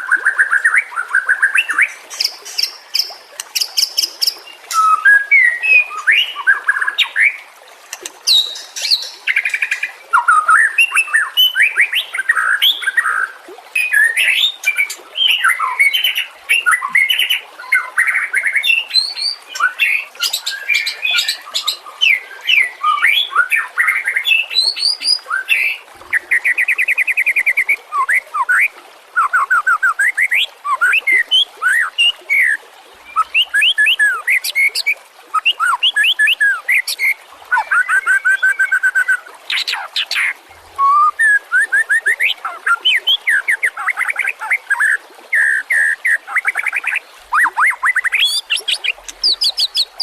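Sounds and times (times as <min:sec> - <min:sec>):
bird singing varied song: 0:00.0 - 0:07.4, 0:08.0 - 0:50.0.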